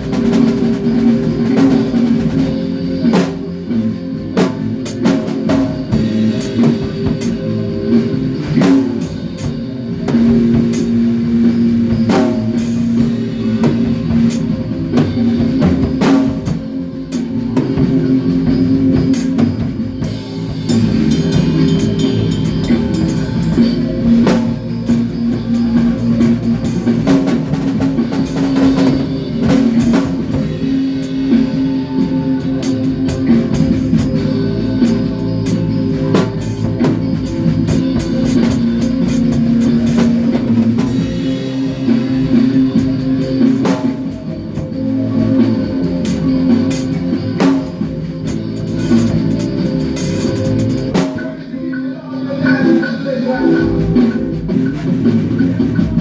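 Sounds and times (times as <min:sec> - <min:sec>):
drum kit: 0:00.0 - 0:51.7, 0:52.5 - 0:56.0
guitar: 0:00.0 - 0:56.0
low bass notes: 0:00.0 - 0:56.0.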